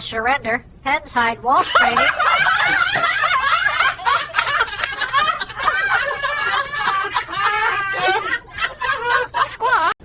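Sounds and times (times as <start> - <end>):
person laughing hard: 1.9 - 10.0.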